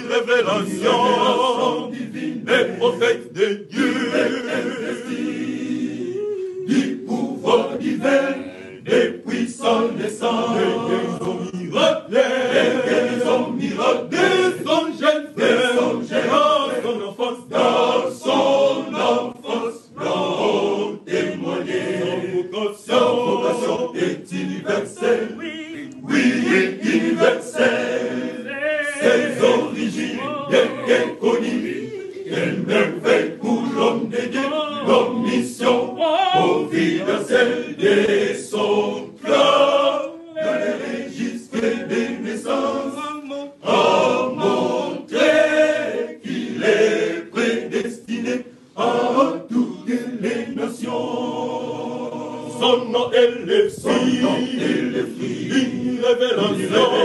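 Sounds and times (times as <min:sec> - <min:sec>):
men's choir singing: 0:00.0 - 0:57.0.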